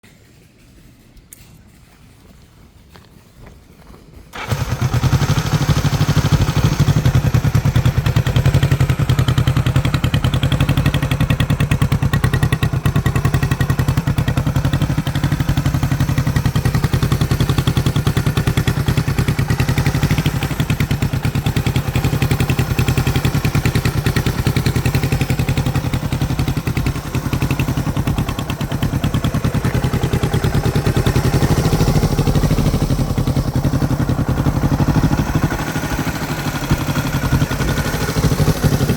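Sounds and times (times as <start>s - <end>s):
motorcycle engine running: 4.3s - 38.9s.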